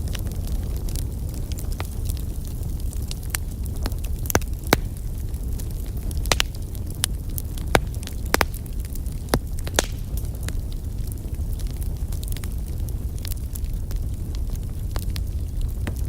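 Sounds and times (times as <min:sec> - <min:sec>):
fire rumbling: 0:00.0 - 0:16.0
wood crackling and popping: 0:00.0 - 0:16.0.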